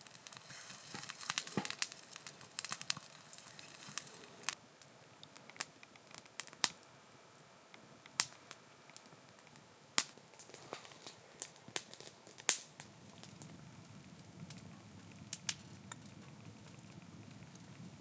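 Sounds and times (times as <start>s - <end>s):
sharp crackles and pops: 0.0s - 18.0s.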